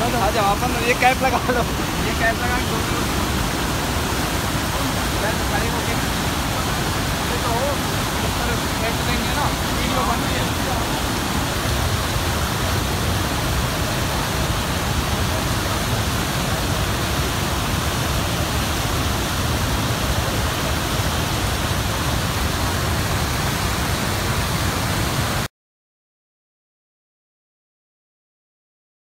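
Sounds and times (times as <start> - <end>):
waterfall crashing over rocks: 0.0 - 25.5.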